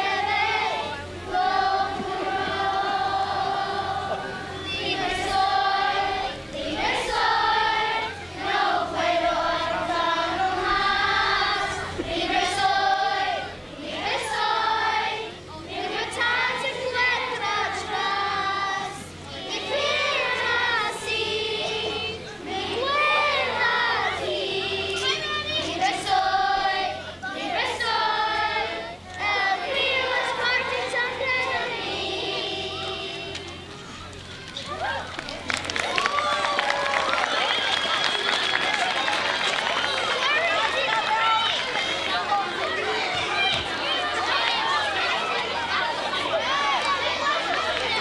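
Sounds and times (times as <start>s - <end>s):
children's choir singing: 0.0s - 34.5s, 35.6s - 48.0s.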